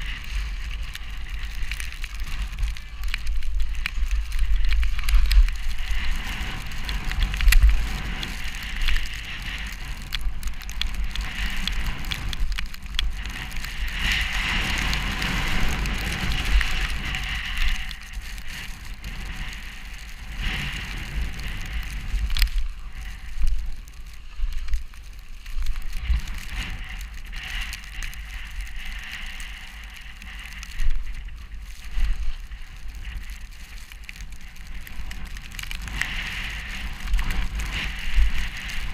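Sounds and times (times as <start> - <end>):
crackles and clicks: 0.0 - 38.9
wind buffeting microphone: 0.0 - 38.9.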